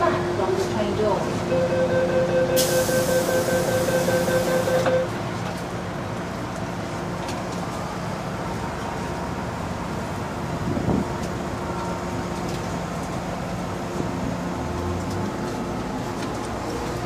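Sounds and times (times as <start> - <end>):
train carriage running hum: 0.0 - 17.0.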